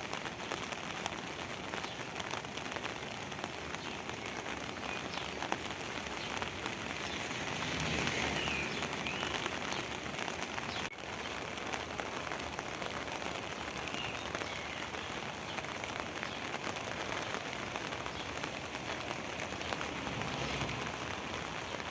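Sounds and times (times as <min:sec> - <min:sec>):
rain pattering on surfaces: 0:00.0 - 0:21.9.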